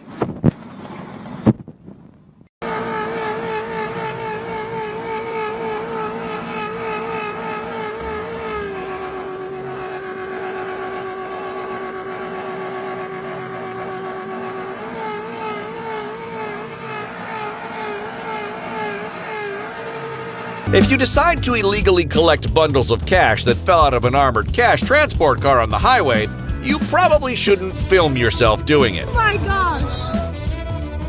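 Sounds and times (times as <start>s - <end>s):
vehicle engine revving: 2.6s - 31.0s.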